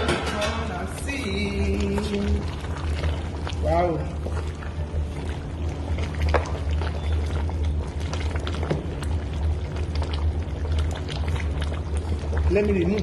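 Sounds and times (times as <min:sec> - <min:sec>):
soup boiling and bubbling: 0:00.0 - 0:13.0
steady low hum: 0:00.0 - 0:13.0.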